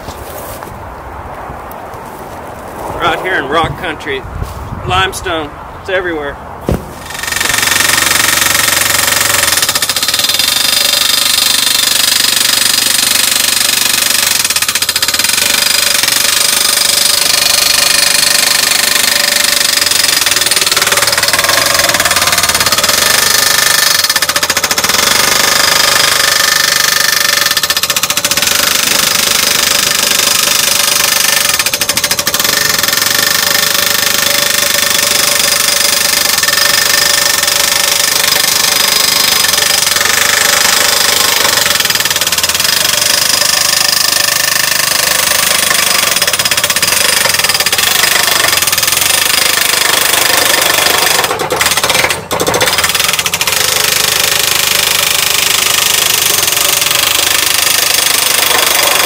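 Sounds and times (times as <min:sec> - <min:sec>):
hydraulic post driver hammering: 0:06.6 - 0:59.0
skid steer engine running hard: 0:06.7 - 0:59.0.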